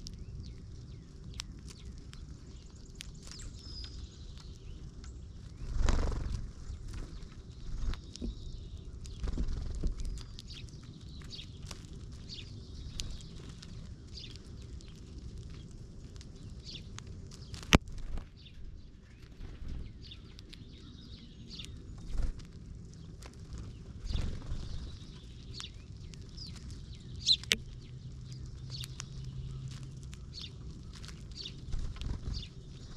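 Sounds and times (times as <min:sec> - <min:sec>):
low outdoor rumble: 0:00.0 - 0:32.9
songbirds chirping: 0:00.0 - 0:32.9.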